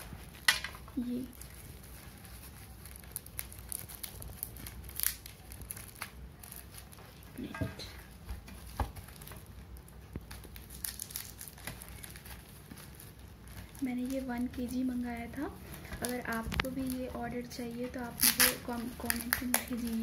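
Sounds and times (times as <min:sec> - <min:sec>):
wrapping crinkling and rustling: 0:00.0 - 0:20.0.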